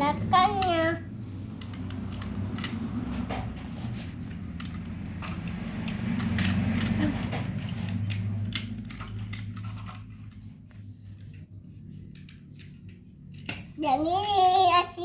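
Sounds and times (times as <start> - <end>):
toy cars clicking and clinking: 0.0 - 10.4, 12.1 - 15.0.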